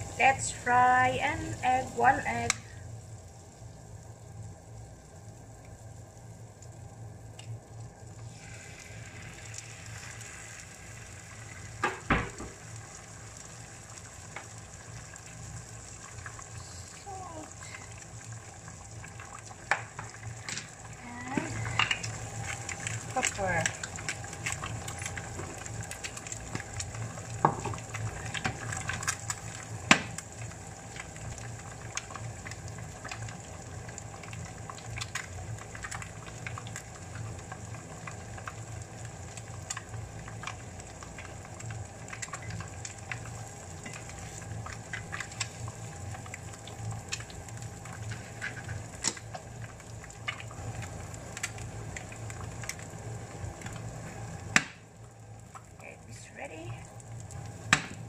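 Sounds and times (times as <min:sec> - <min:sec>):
egg sizzling in butter: 0:00.0 - 0:58.0.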